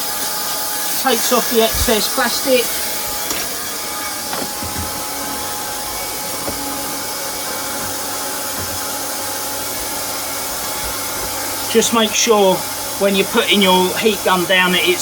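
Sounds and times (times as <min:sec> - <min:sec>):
hot-air welding gun blower hissing: 0:00.0 - 0:15.0.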